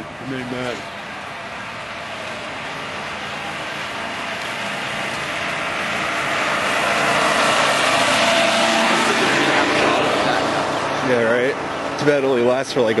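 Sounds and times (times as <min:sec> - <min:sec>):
utility cart driving past: 0:00.0 - 0:13.0.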